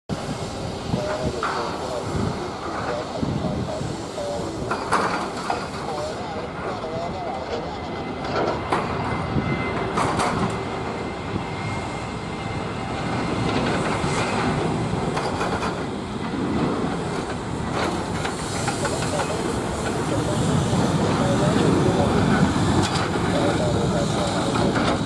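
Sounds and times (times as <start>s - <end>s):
jet engines at high power: 0.1s - 25.0s.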